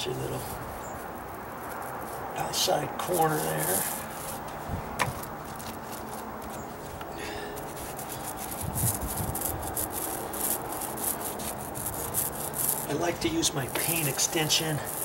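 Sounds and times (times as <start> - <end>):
paint roller hissing strokes: 0.0 - 15.0.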